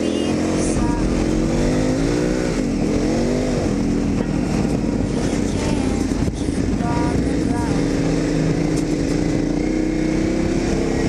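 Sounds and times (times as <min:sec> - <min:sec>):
motorcycle engine revving: 0:00.0 - 0:11.0
wind and road noise: 0:00.0 - 0:11.0.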